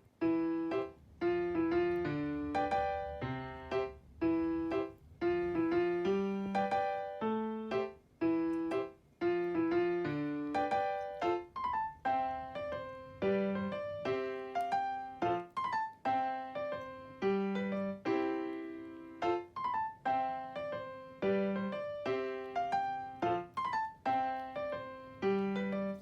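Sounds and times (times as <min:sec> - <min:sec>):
light piano tune: 0:00.0 - 0:26.0.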